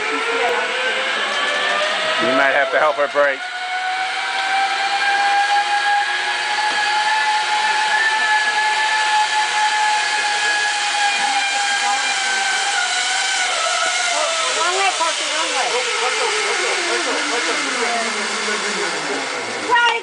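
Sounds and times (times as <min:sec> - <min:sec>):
zip-line pulley whine on cable: 0:00.0 - 0:20.0.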